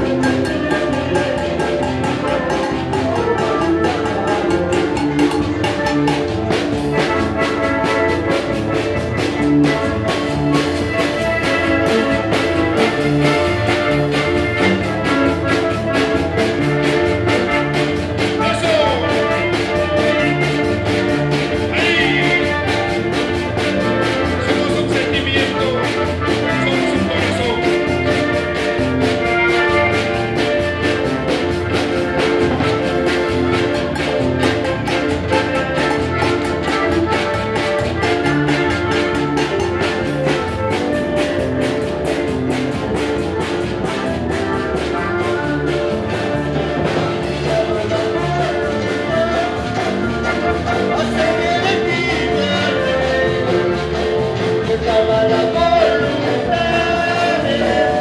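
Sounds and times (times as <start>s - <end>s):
accordion chords: 0.0s - 58.0s
acoustic guitar: 0.0s - 58.0s
steady drum beat: 0.0s - 58.0s.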